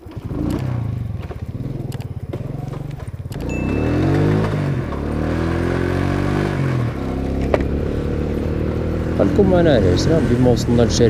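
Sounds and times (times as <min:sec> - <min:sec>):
motorbike engine accelerating: 0:00.0 - 0:11.0.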